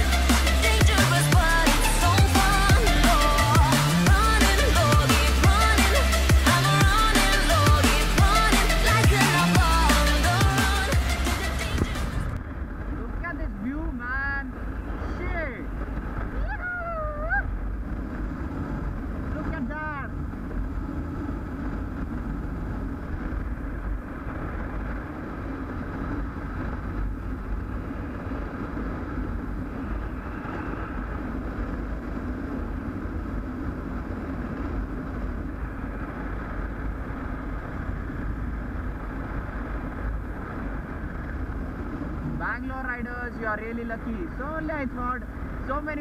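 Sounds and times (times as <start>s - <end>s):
road drone: 0.0s - 46.0s
wind rushing over microphone: 0.0s - 46.0s.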